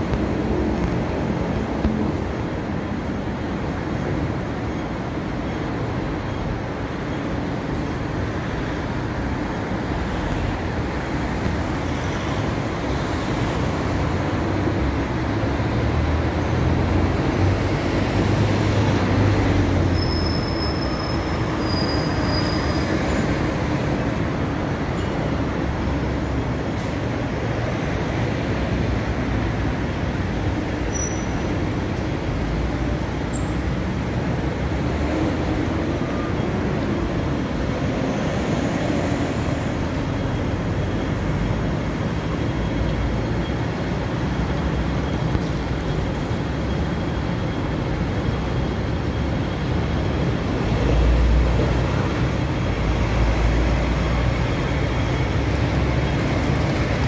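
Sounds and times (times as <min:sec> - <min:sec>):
rumble of passing vehicles: 0:00.0 - 0:57.0.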